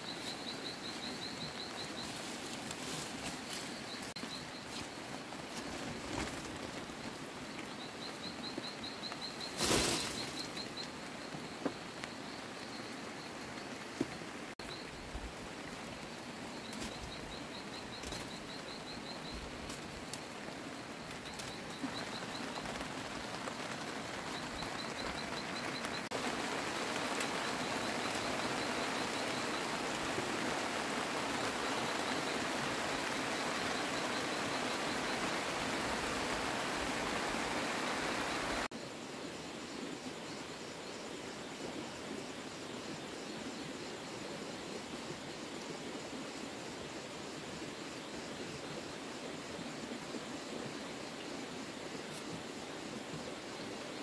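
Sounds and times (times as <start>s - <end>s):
steady outdoor hiss: 0.0s - 54.0s.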